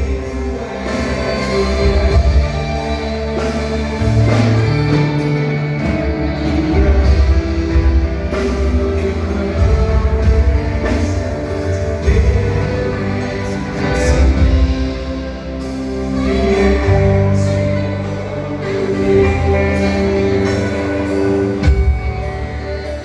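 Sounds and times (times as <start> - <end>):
strong bass line: 0.0 - 23.0
worship band playing: 0.0 - 23.0.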